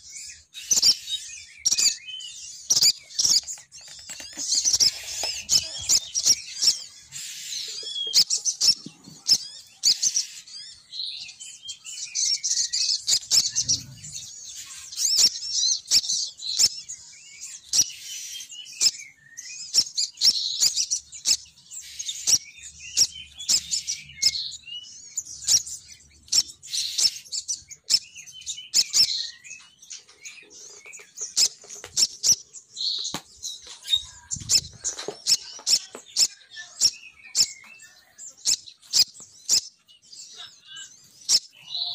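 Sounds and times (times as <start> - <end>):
bird chirping and twittering: 0.0 - 41.9.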